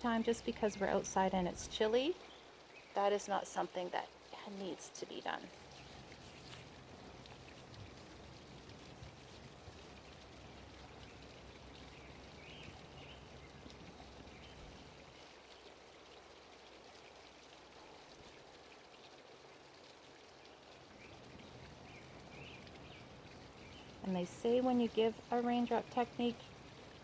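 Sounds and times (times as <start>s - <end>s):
faint outdoor background hiss: 0.0s - 27.0s.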